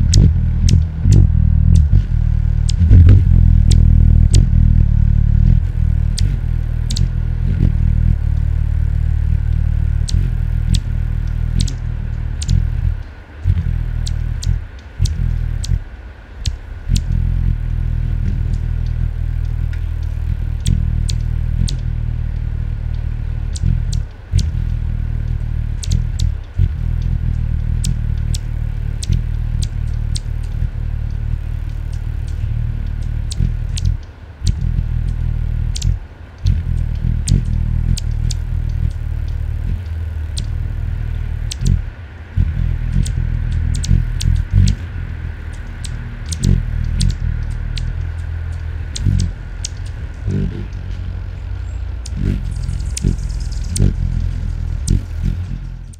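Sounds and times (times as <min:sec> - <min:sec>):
hummingbird wings humming: 0:00.0 - 0:55.9
sharp high ticks: 0:00.0 - 0:55.9.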